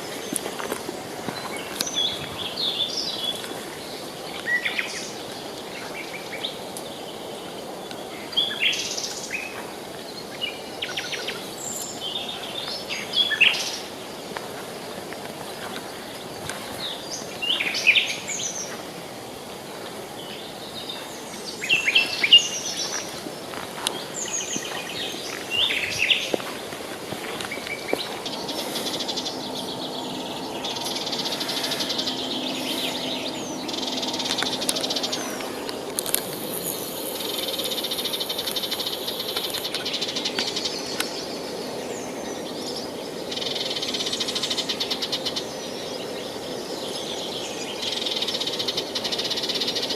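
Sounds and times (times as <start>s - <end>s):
birds chirping: 0.0s - 49.9s
river water running: 0.0s - 49.9s.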